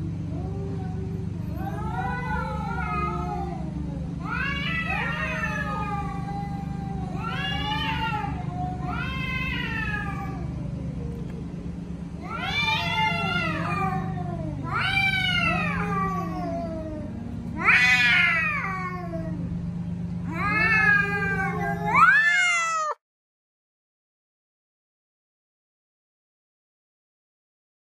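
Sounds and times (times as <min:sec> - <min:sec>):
cats caterwauling: 0:00.0 - 0:23.0.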